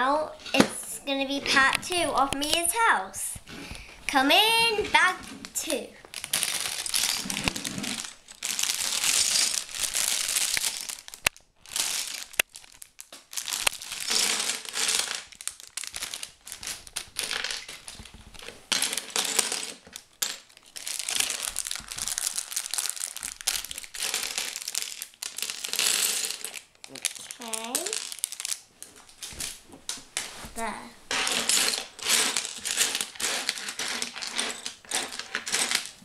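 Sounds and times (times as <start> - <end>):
plastic bag crinkling: 4.5 - 29.6, 31.1 - 36.0
plastic bricks clattering: 4.8 - 29.6, 31.1 - 36.0.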